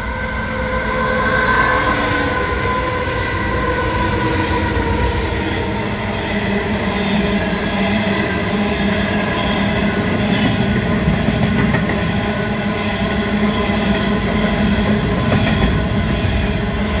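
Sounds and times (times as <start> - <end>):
train wagons rumbling past: 0.0 - 17.0.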